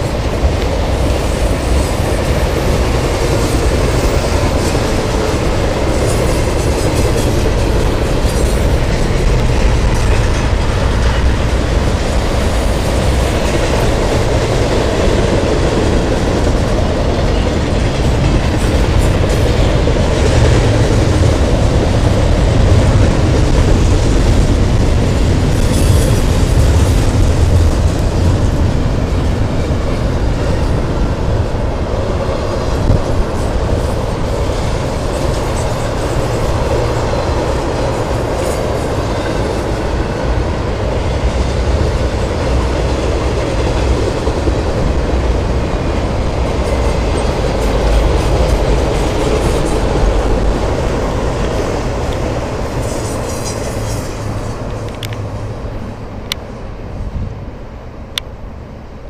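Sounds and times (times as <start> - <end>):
clickety-clack over rail joints: 0.0 - 58.4
freight train wheels rumbling: 0.0 - 59.0.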